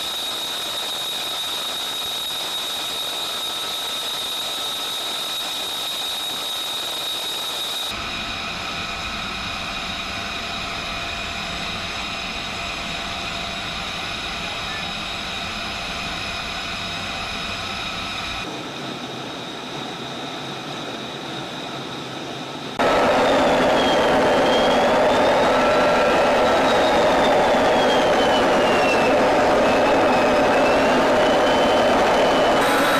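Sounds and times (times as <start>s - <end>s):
jet engines whining: 0.0s - 32.9s.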